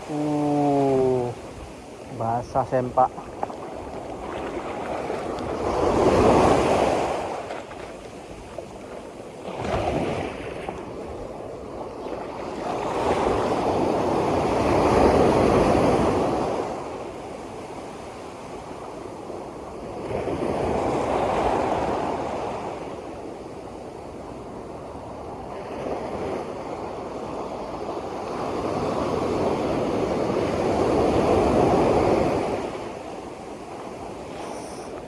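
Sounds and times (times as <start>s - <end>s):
sea waves breaking: 0.0s - 23.8s, 24.5s - 35.0s.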